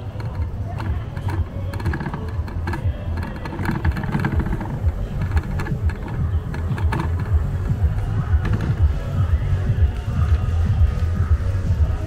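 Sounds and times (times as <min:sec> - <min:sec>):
bicycle rattling over paving: 0:00.0 - 0:12.0.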